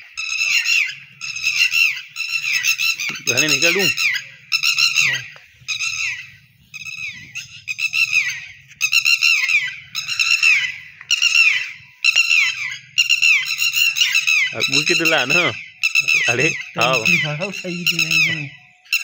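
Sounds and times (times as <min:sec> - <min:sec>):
bird calling with falling notes: 0:00.0 - 0:19.0.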